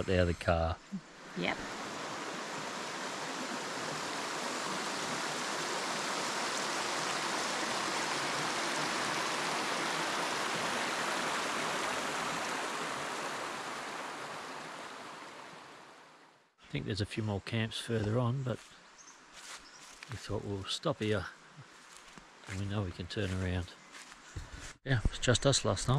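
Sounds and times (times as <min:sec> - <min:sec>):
creek water running: 0:00.0 - 0:16.2, 0:17.2 - 0:24.7.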